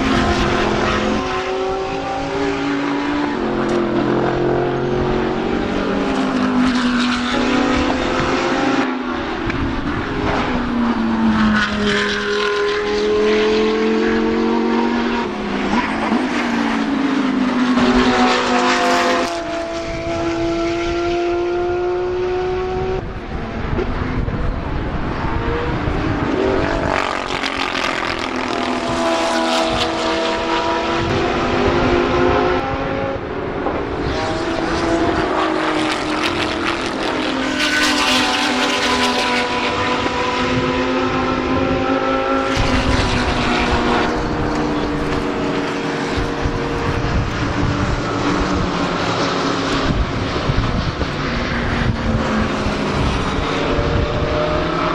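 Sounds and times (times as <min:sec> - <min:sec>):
race cars passing: 0:00.0 - 0:54.9.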